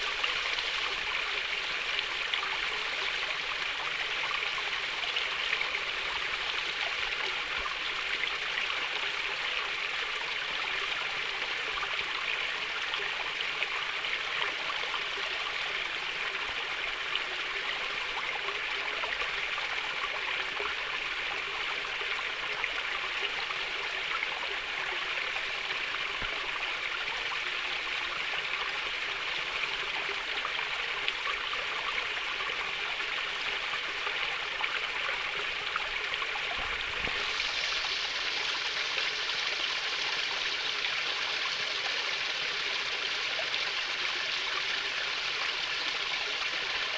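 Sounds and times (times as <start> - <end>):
stream water gurgling: 0.0 - 46.9.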